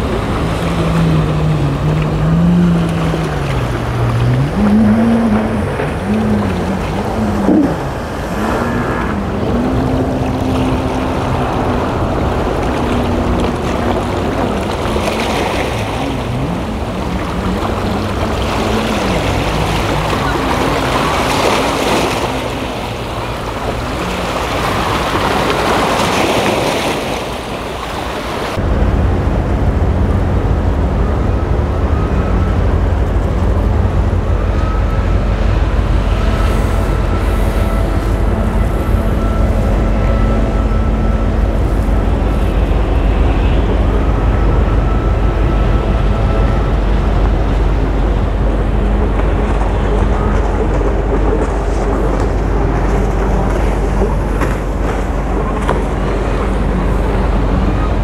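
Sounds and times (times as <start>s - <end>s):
loud steady low rumble: 0.0s - 26.7s, 28.4s - 58.0s
boat engine running: 0.0s - 58.0s
waves against rocky shore: 0.0s - 58.0s.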